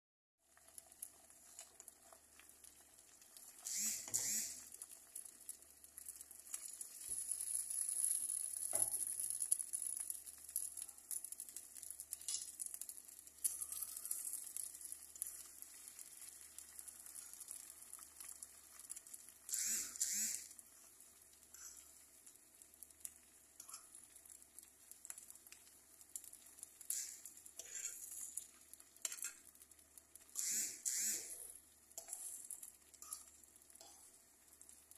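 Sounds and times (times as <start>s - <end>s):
eggs sizzling in frying pan: 0.4s - 34.9s.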